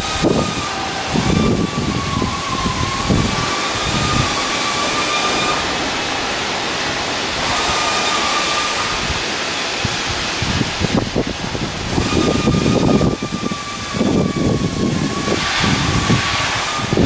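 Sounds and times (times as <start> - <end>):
loud hissing machinery: 0.0 - 17.0
thin machine whine: 0.0 - 17.0.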